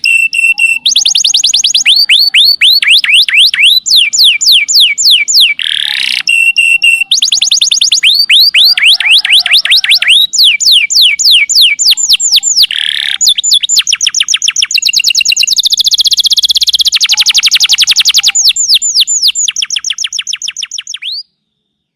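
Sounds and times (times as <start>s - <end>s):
canary singing trills: 0.0s - 21.9s.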